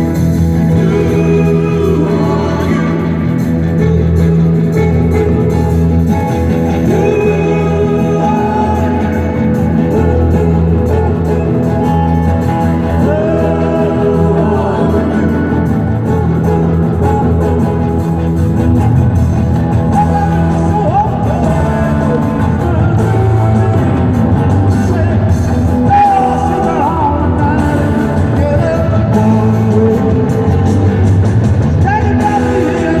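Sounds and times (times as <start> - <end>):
person singing: 0.0 - 18.1, 19.5 - 33.0
rock band playing live: 0.0 - 33.0.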